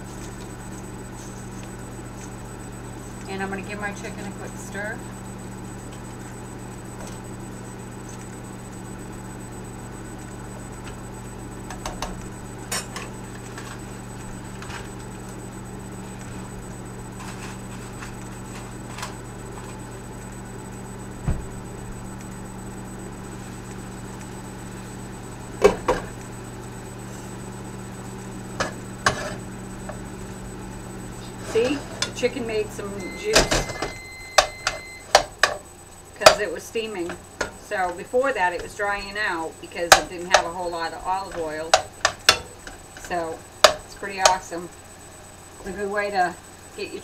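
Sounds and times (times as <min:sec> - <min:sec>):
microwave oven humming: 0:00.0 - 0:47.0.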